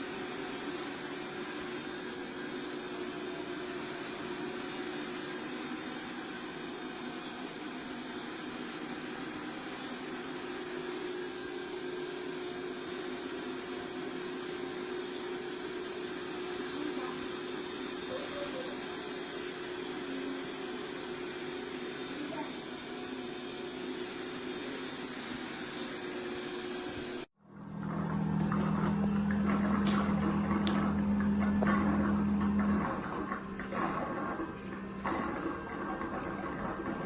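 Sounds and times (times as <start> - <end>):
robot vacuum whirring hum: 0.0 - 37.0.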